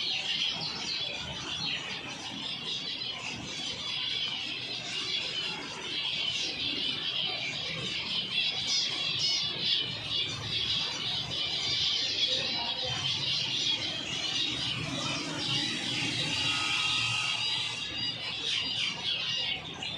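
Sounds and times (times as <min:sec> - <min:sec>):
finches chattering: 0:00.0 - 0:19.9.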